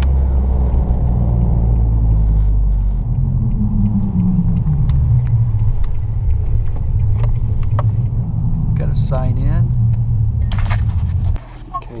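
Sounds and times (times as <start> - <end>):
pickup truck engine: 0.0 - 11.4
road rumble: 0.0 - 12.0.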